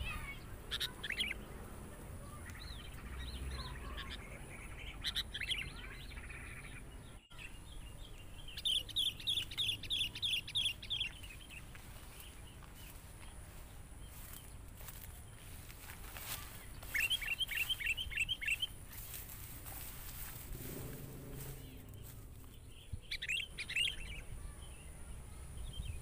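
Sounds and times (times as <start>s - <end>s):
high bird-like chirps: 0.0s - 1.5s, 2.3s - 11.6s, 14.1s - 24.9s.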